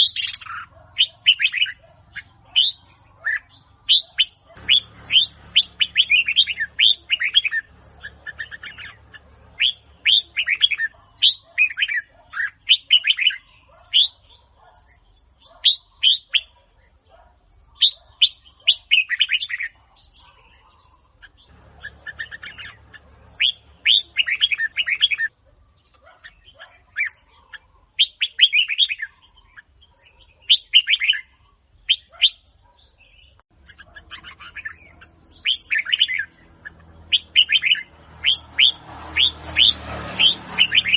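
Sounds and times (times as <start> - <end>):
bulbul singing whistled phrases: 0.0 - 16.9, 17.7 - 40.9.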